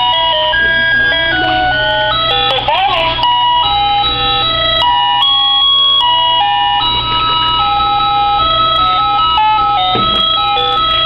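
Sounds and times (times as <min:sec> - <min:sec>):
electronic alarm clock melody: 0:00.0 - 0:11.0.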